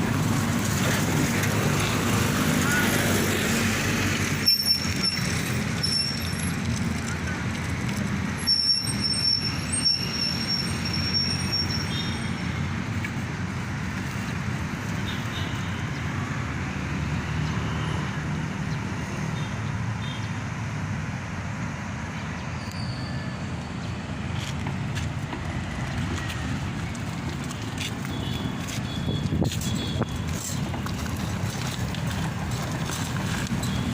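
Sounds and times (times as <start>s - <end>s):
road traffic hum: 0.0s - 33.9s.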